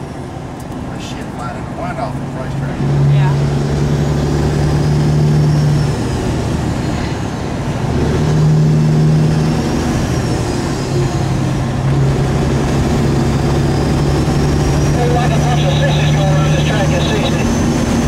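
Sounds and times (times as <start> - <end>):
diesel truck engines droning: 0.0 - 18.0.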